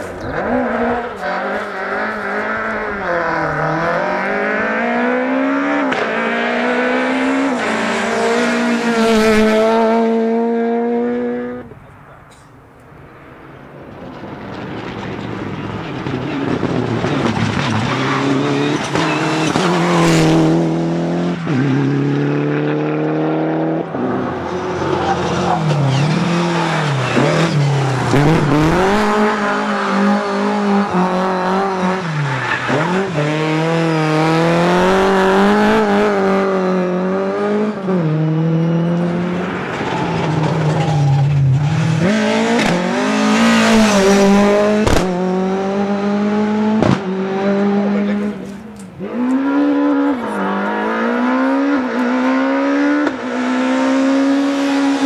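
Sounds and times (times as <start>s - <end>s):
rally car engine revving: 0.0s - 11.8s, 13.8s - 55.0s.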